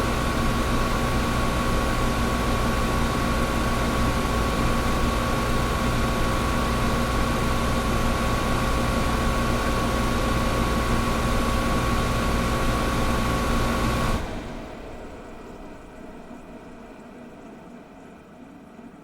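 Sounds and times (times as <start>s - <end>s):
air conditioner whooshing hum: 0.0s - 19.0s.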